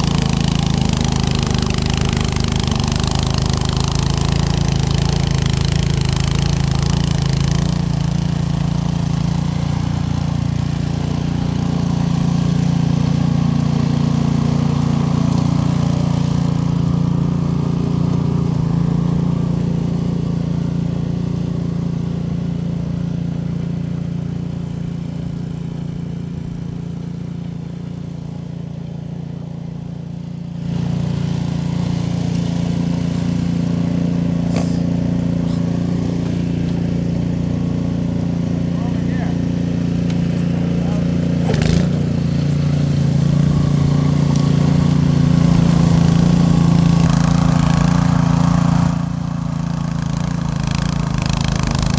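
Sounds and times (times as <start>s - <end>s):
snow blower engine running: 0.0s - 51.9s.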